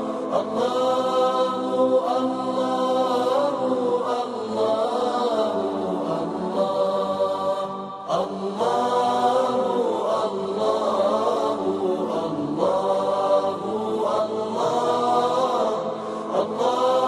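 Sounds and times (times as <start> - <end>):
wordless vocal chanting: 0.0 - 17.0.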